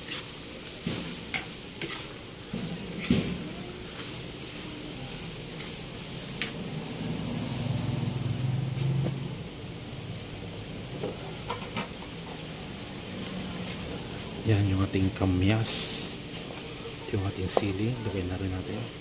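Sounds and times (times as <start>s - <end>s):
meat sizzling in a wok: 0.0s - 19.0s.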